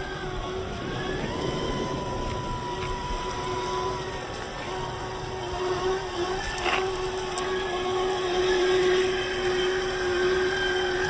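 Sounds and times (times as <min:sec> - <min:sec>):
electric motor and gear whine: 0:00.0 - 0:11.0.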